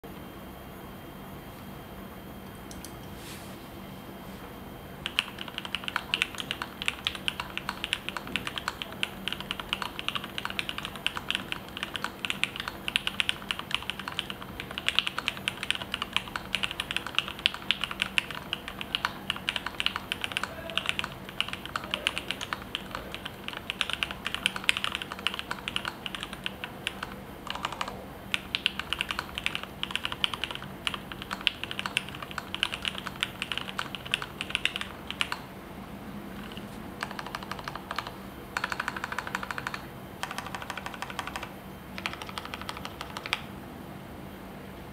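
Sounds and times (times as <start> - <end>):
fast mechanical keyboard typing: 5.0 - 35.5, 36.3 - 43.5.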